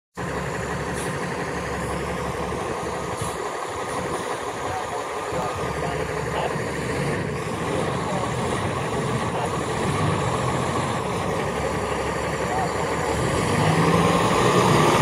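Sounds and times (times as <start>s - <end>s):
diesel engine idling: 0.2s - 15.0s.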